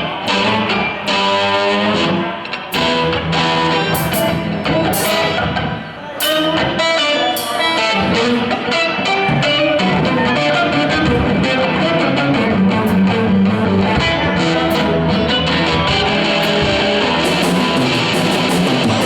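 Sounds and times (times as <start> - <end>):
blues rock band playing: 0.0 - 19.0
electric guitar lines: 0.0 - 19.0.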